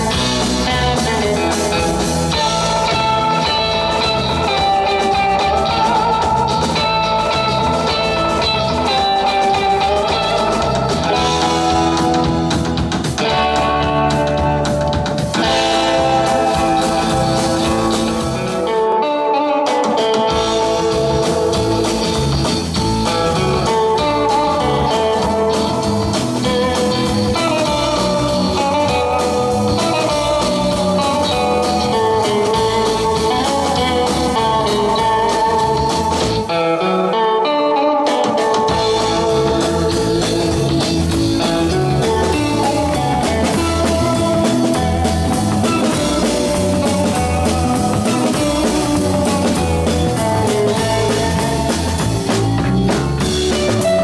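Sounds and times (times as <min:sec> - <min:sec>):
bass and drums: 0:00.0 - 0:54.0
electric guitar: 0:00.0 - 0:54.0.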